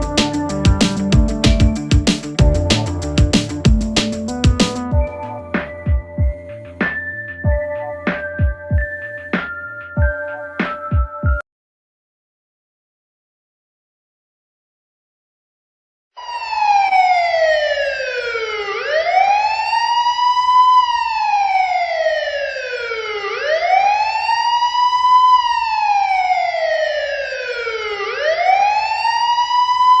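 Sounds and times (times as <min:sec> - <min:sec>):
electronic police siren wailing: 0:00.0 - 0:11.4, 0:16.2 - 0:30.0.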